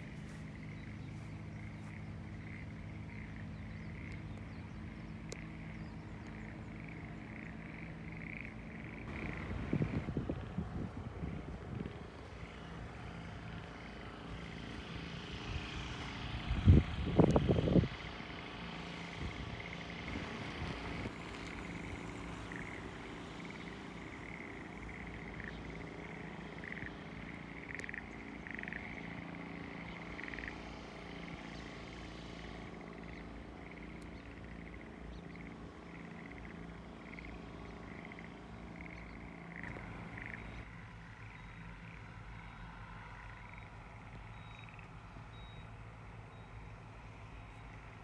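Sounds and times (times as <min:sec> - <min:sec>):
frogs chirping: 0:00.0 - 0:10.2, 0:17.2 - 0:31.8, 0:32.4 - 0:48.0
steady low rumble: 0:00.0 - 0:48.0.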